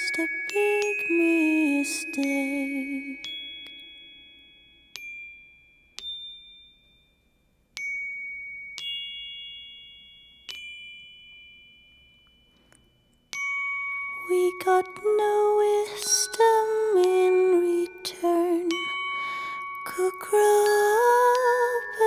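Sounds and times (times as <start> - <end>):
high bell-like struck notes: 0.0 - 22.0.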